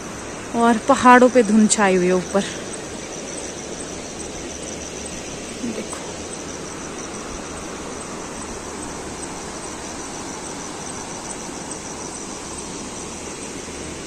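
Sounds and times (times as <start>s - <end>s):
insects chirping: 0.0s - 14.0s
rushing mountain stream: 0.0s - 14.0s.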